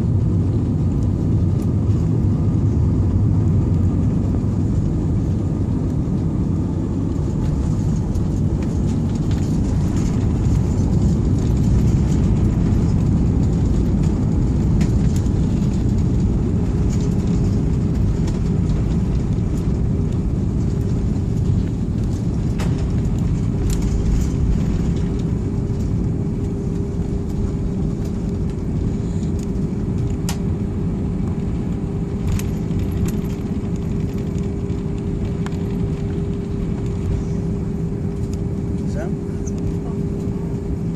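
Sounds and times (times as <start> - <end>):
airliner cabin engine rumble: 0.0 - 40.9
steady hum: 0.0 - 40.9.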